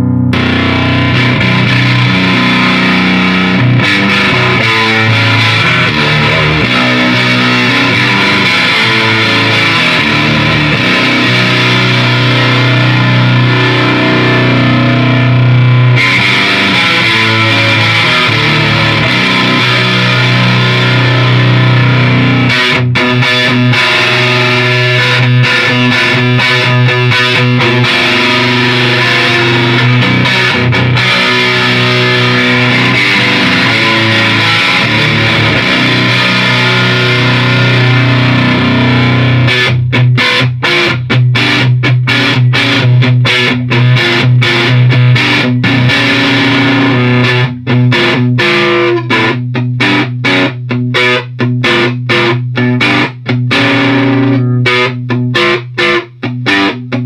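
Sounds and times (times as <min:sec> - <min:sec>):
distorted electric guitar chords: 0:00.0 - 0:57.0.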